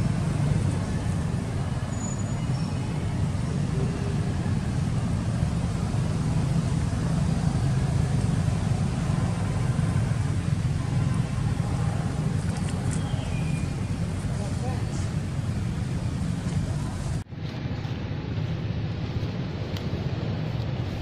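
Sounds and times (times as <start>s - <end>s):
motor vehicle engine rumbling: 0.0s - 21.0s.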